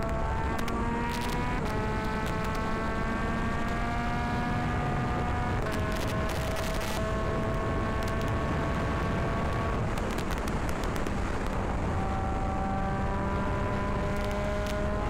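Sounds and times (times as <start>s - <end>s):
steady rush of noise: 0.0s - 15.0s.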